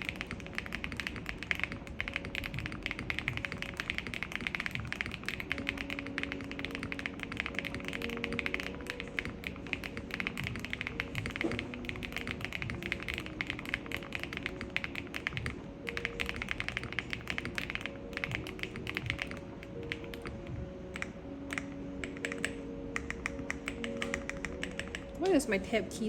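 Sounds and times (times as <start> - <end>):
mechanical keyboard typing: 0.0 - 25.4
background music: 0.0 - 26.0.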